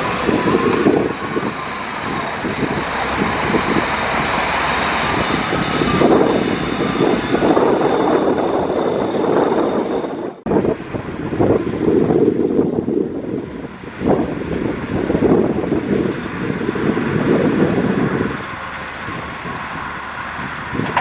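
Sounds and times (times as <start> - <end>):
heavy diesel machinery working: 0.0 - 21.0.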